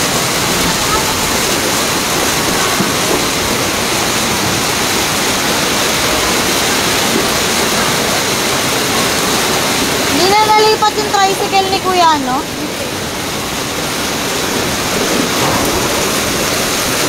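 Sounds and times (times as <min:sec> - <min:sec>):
floodwater rushing down a street: 0:00.0 - 0:17.0.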